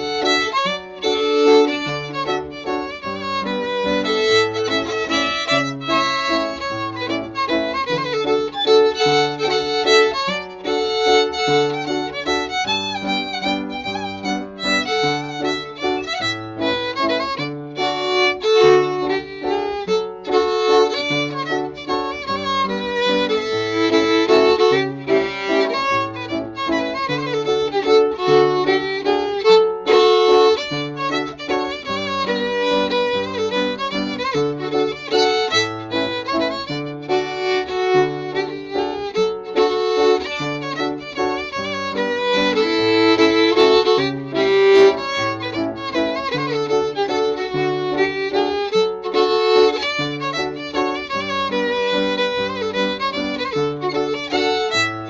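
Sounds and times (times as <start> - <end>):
fiddle melody: 0.0 - 55.0
piano accompaniment: 0.0 - 55.0.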